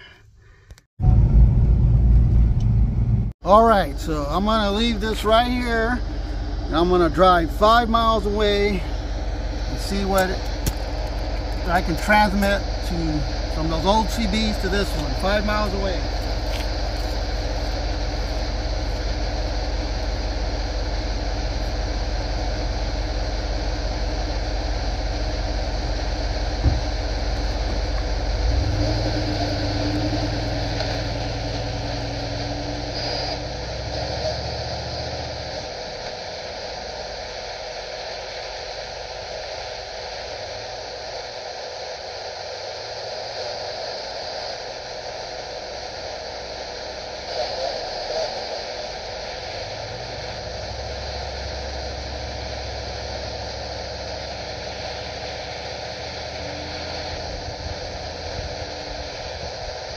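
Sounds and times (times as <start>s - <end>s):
low engine rumble: 0.0s - 42.0s, 44.0s - 59.9s
radio static hiss: 3.4s - 59.9s.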